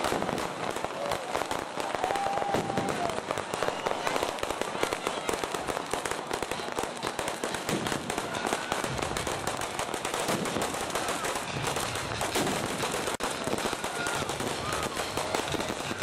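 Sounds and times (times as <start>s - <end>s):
firecrackers banging rapidly: 0.0s - 16.0s.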